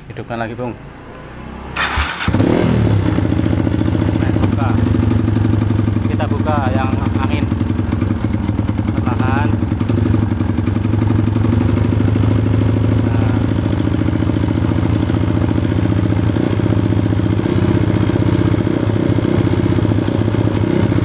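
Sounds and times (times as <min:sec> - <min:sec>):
motorcycle engine idling: 0:01.8 - 0:21.0.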